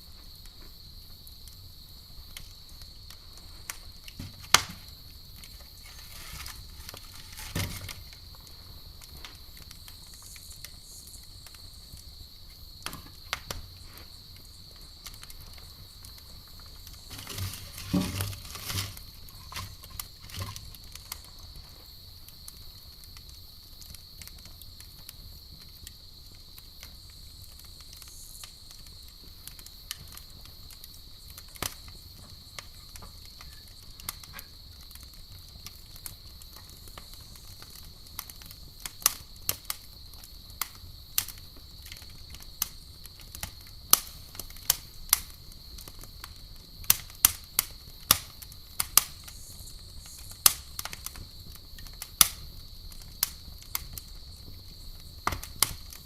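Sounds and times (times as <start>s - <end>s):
campfire crackling and popping: 0.0s - 56.0s
crickets chirring: 0.0s - 56.0s.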